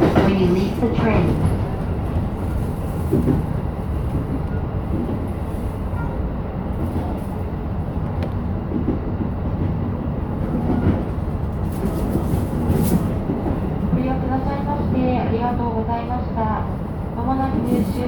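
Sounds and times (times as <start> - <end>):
electric train rumbling on rails: 0.0 - 18.0.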